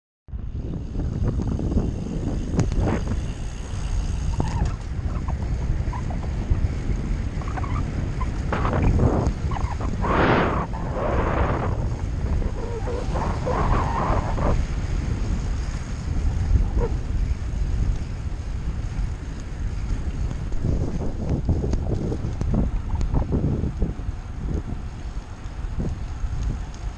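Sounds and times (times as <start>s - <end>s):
wind buffeting microphone: 0.3s - 26.9s.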